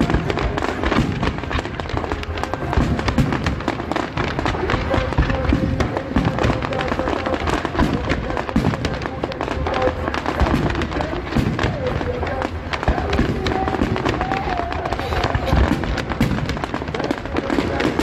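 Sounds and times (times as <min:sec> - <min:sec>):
fireworks cracking and popping: 0:00.0 - 0:18.0.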